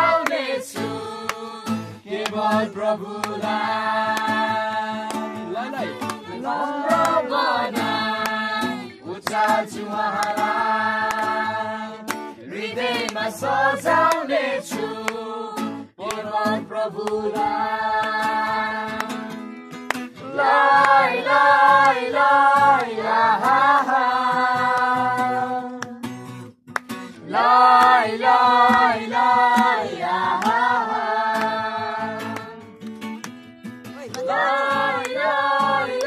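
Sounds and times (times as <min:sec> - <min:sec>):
group singing a hymn: 0:00.0 - 0:19.5, 0:20.1 - 0:26.0, 0:27.1 - 0:32.8, 0:34.1 - 0:36.0
acoustic guitar strummed: 0:00.0 - 0:36.0.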